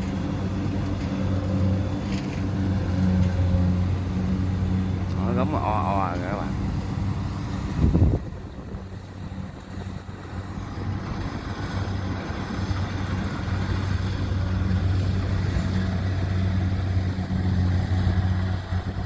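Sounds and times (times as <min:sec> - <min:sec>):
diesel engine droning under load: 0:00.0 - 0:19.0.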